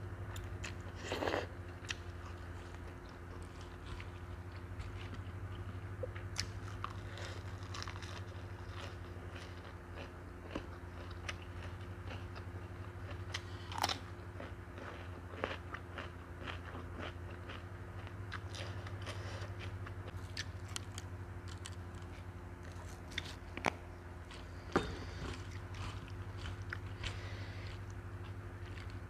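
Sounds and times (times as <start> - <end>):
steady low hum: 0.0 - 29.0
chewing crunchy salad: 0.3 - 29.0.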